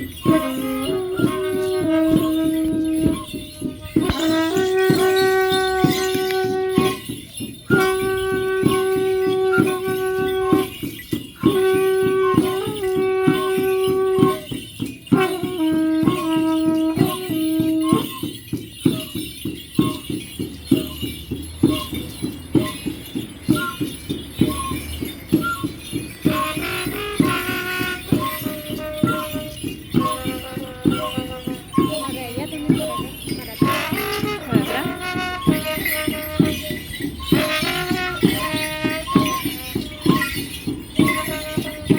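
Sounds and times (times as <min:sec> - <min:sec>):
drum beating steadily: 0:00.0 - 0:41.9
rattling jingling percussion: 0:00.0 - 0:41.9
wind instrument playing notes: 0:00.0 - 0:41.9.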